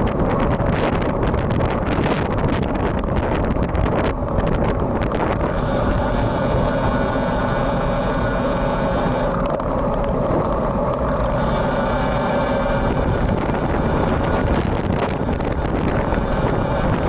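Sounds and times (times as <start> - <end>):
motor traffic hum: 0.0 - 17.0
wind buffeting microphone: 0.0 - 17.0.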